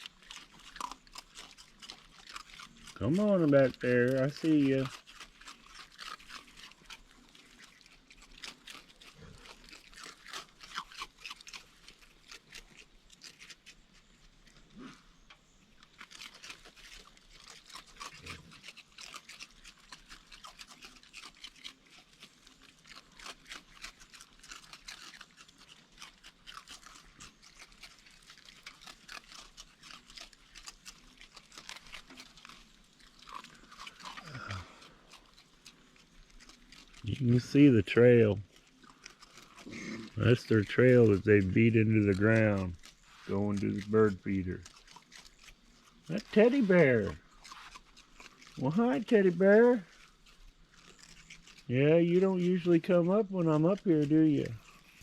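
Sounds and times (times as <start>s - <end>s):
raccoons chewing and crunching food: 0.0s - 55.0s.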